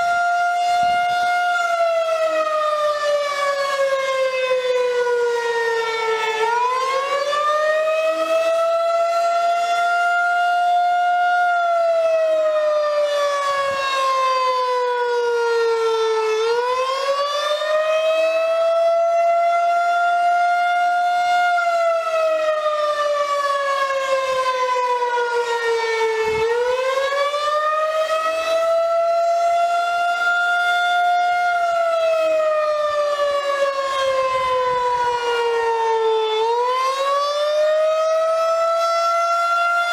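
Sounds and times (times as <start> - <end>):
tornado warning siren wailing: 0.0 - 39.9.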